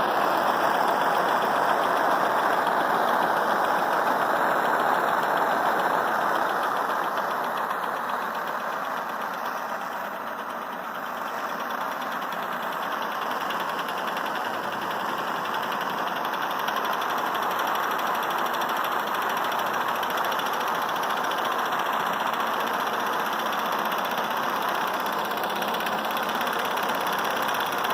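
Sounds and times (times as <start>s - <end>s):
jet stove burning rush: 0.0s - 27.9s
stirling engine ticking: 0.0s - 27.9s.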